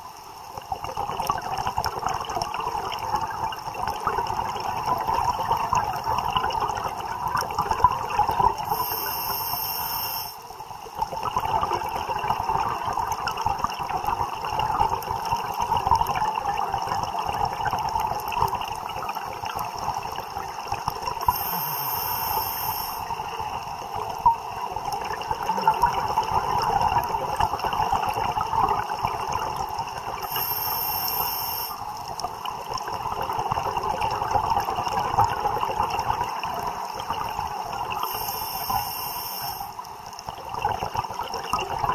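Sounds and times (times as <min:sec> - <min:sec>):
underwater crackling hiss: 0:00.6 - 0:41.9.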